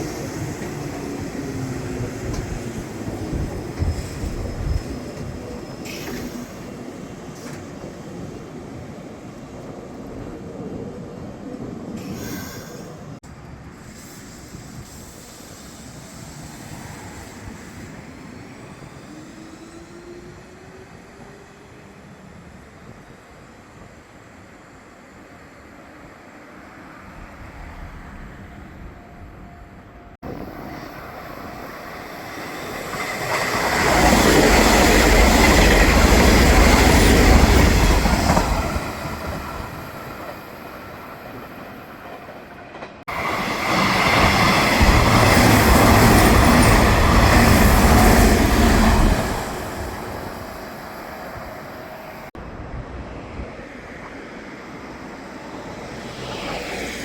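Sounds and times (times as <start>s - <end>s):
electric train passing with high whine: 0.0s - 57.0s.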